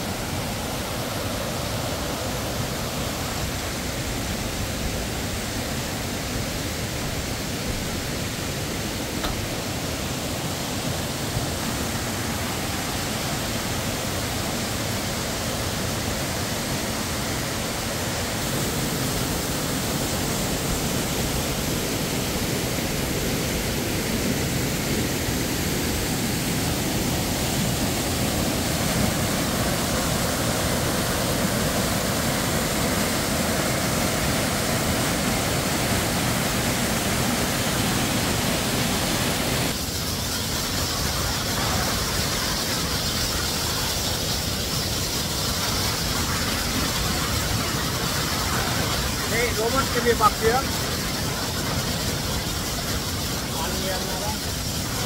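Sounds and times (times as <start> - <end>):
waterfall pouring into pool: 0.0 - 55.0.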